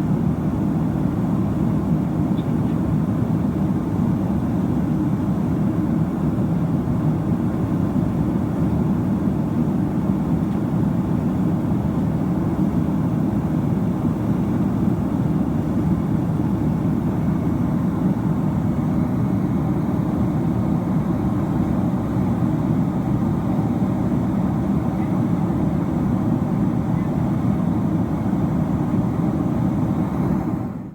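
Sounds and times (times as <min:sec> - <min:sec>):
jet engine cabin roar: 0:00.0 - 0:30.9.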